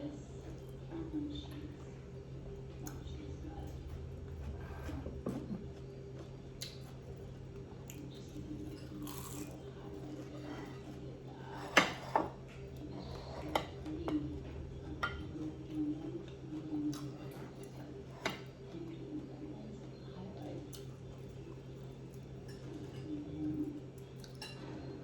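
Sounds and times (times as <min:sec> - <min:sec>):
steady low hum: 0:00.0 - 0:24.2.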